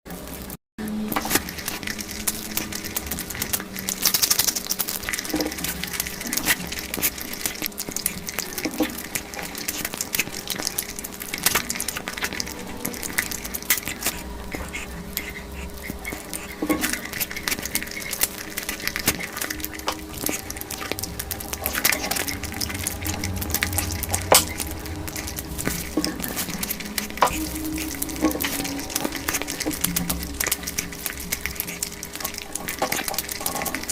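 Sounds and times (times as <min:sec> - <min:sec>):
person chewing food: 0:00.1 - 0:33.9.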